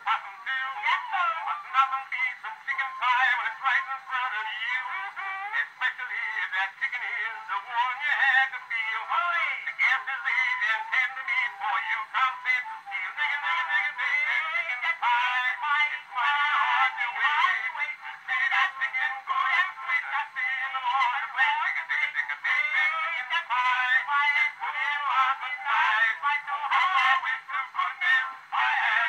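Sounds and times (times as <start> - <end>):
phonograph playing vocal duet: 0.0 - 29.0.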